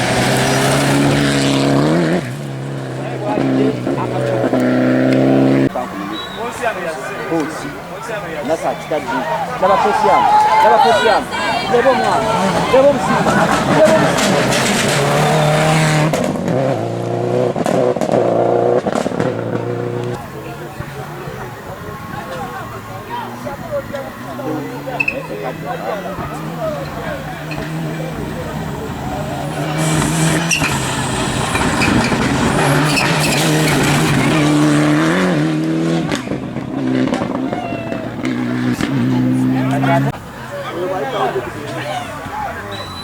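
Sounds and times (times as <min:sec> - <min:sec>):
rally car engine revving high: 0:00.0 - 0:06.3, 0:10.8 - 0:43.0.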